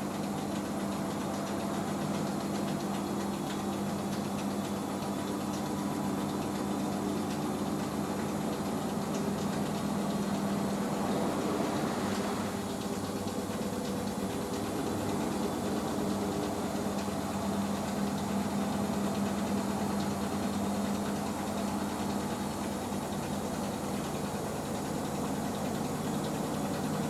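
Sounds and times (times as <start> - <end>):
washing machine drum motor humming: 0.0 - 27.0.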